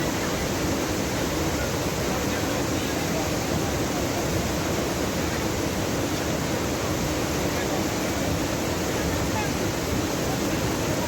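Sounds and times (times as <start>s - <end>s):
river floodwater rushing: 0.0s - 11.0s.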